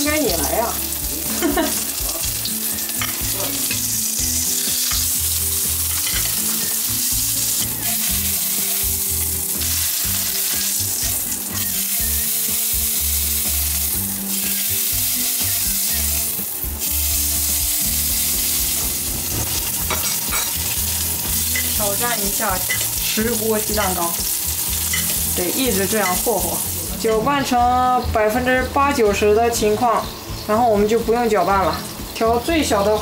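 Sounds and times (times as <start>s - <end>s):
fish fillets sizzling in a pan: 0.0s - 33.0s.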